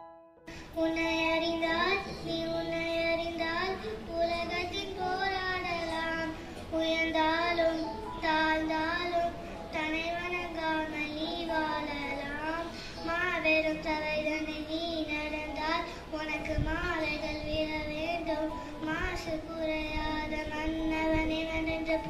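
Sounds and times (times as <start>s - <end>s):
child singing: 0.7s - 22.0s.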